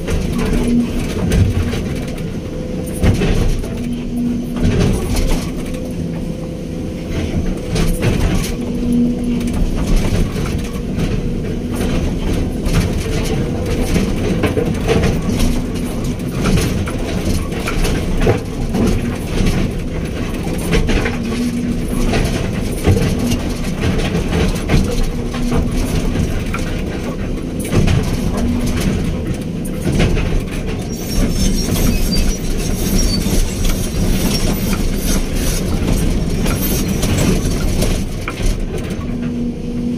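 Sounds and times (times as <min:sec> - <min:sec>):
machine clanks and knocks: 0:00.0 - 0:06.3, 0:07.1 - 0:39.5
diesel engine drone: 0:00.0 - 0:39.9.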